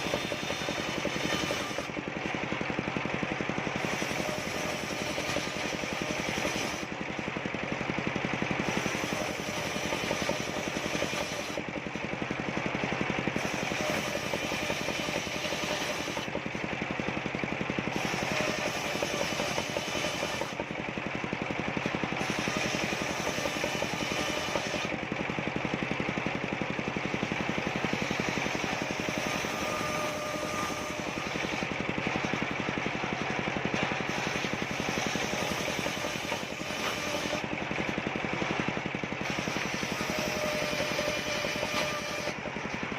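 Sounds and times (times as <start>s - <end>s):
circular saw cutting wood: 0.0s - 42.9s.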